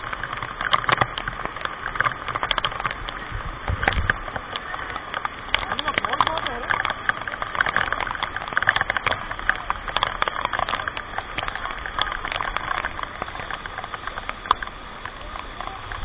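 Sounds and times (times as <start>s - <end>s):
water rushing and splashing: 0.0s - 16.0s.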